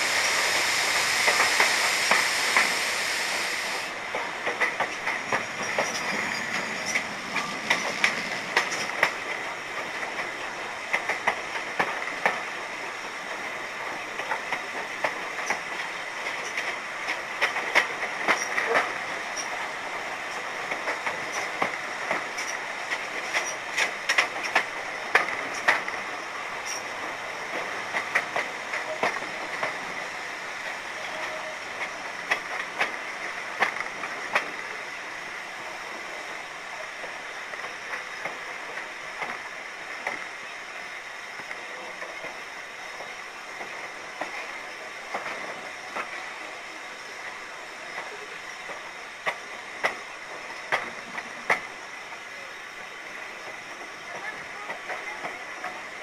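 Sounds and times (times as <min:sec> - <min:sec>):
train wheels clicking over rail joints: 0:00.0 - 0:36.2, 0:37.0 - 0:56.0
steam hissing: 0:00.0 - 0:56.0
steam train running noise: 0:00.0 - 0:56.0.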